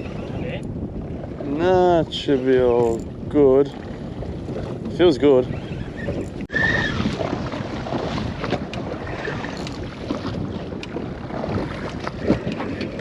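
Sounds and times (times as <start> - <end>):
water sloshing against boat: 0.0 - 13.0
wind buffeting microphone: 0.0 - 13.0.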